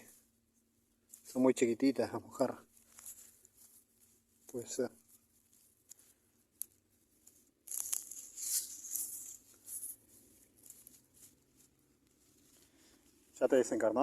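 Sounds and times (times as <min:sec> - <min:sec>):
high-pitched rustling and crinkling: 0:00.0 - 0:14.0.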